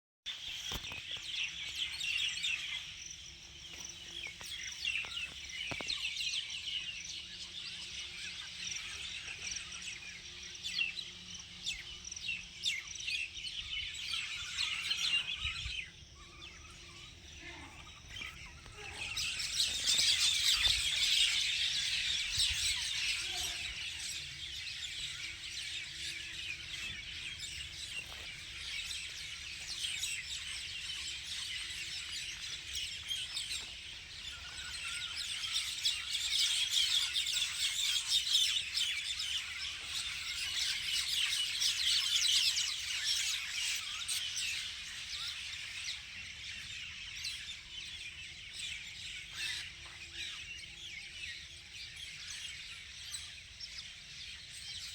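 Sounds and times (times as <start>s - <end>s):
birds chirping and twittering: 0.3s - 54.9s.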